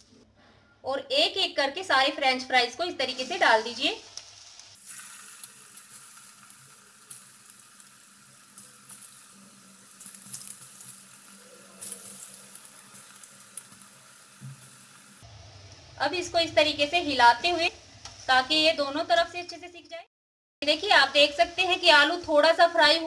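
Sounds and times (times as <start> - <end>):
fries sizzling in hot fat: 1.8 - 19.8, 20.6 - 23.0.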